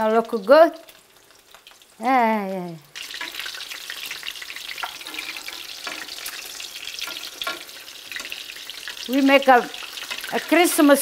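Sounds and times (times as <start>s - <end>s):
fish frying in oil: 0.0s - 11.0s.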